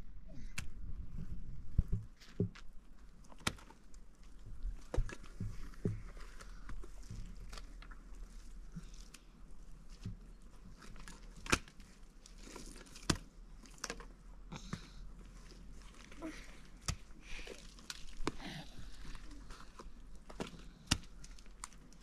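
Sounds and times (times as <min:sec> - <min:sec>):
crunching and rustling: 0:01.1 - 0:22.0.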